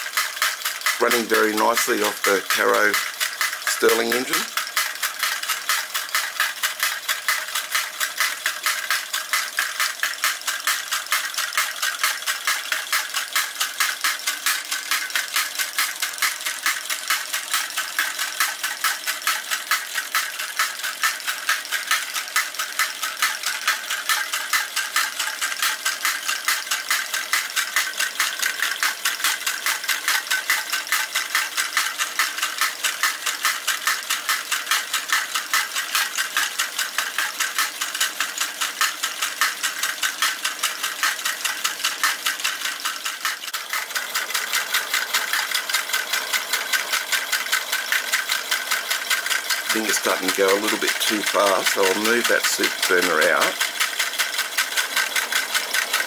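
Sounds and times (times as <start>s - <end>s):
small engine running mechanism: 0.0s - 56.0s
toy drop hammer clattering: 0.0s - 56.0s.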